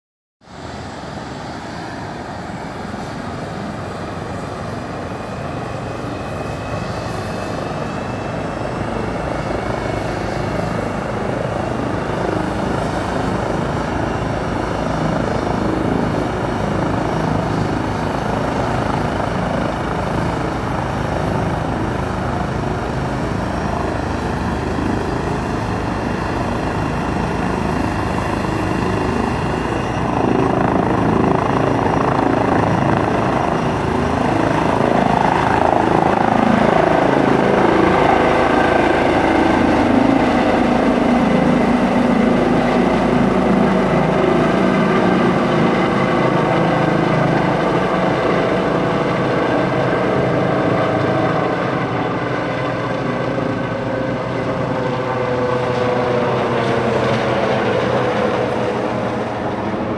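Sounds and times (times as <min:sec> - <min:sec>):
high turbine whine: 0:00.4 - 0:59.9
helicopter rotor beat: 0:00.5 - 0:59.9.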